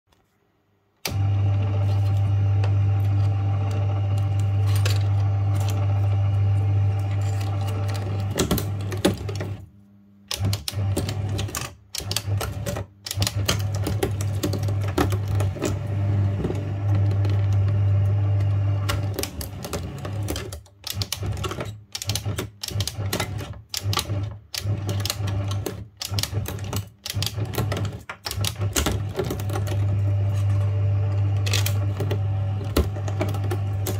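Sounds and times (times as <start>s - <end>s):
paper shredder motor running: 1.0s - 9.6s, 10.4s - 33.9s
shredder cutters crackling and clicking: 1.0s - 9.6s, 10.3s - 33.9s.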